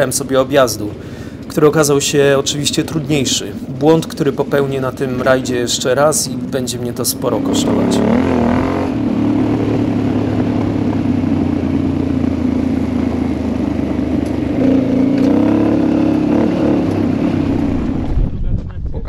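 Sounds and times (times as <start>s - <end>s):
motorcycle engine under load: 0.0s - 18.5s.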